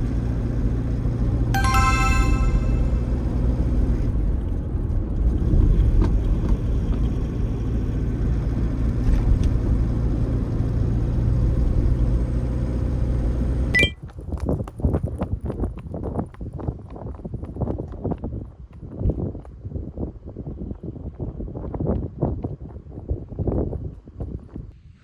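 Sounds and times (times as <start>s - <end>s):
car engine and tyres rumbling: 0.0s - 1.4s, 3.4s - 25.0s.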